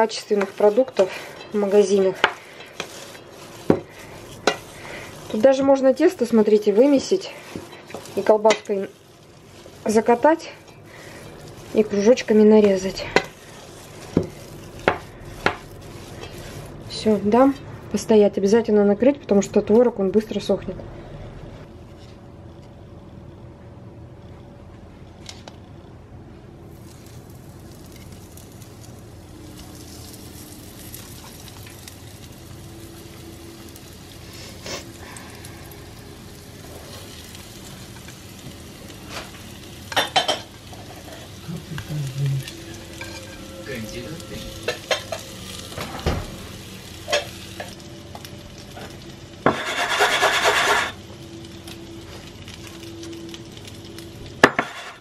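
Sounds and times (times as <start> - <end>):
oil sizzling in a frying pan: 0.0 - 19.0, 26.7 - 55.0.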